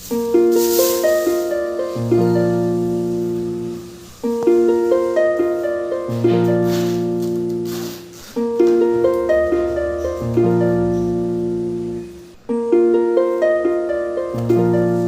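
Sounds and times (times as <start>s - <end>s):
plucked-string melody: 0.0s - 15.0s.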